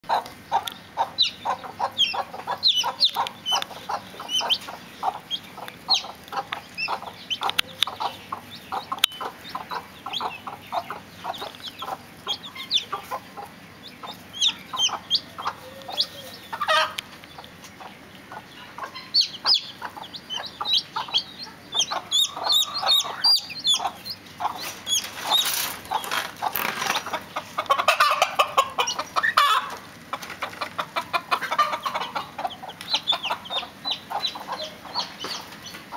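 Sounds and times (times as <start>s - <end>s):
chicks peeping: 0.0s - 35.9s
hens clucking: 0.0s - 35.9s.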